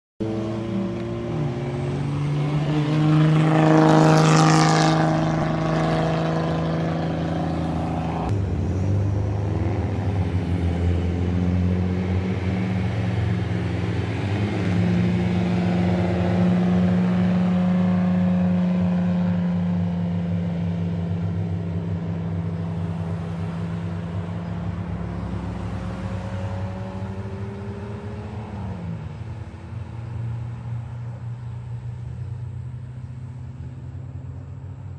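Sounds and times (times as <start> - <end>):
loud cars driving past: 0.2 - 34.9.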